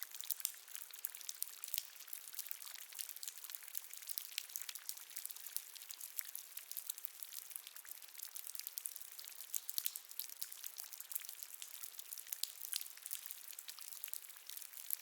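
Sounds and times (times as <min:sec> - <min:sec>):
water dripping in a cave: 0:00.0 - 0:15.0.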